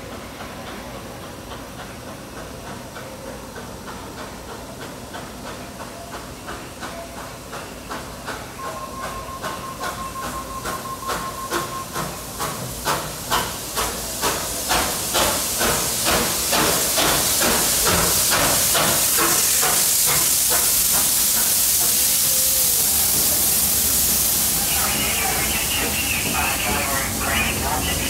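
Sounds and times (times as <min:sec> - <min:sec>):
steam locomotive chuffing: 0:00.0 - 0:28.0
loud hiss of steam: 0:03.5 - 0:28.0.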